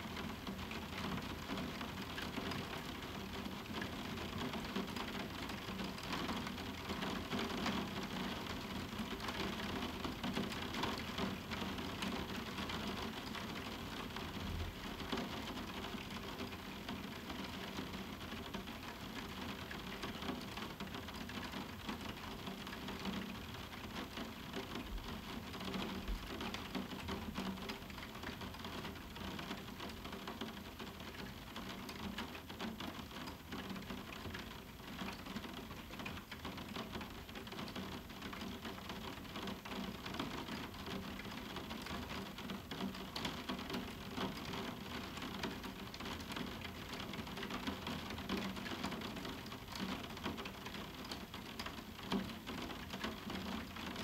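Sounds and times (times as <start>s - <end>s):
rain pattering on glass: 0.0s - 54.0s.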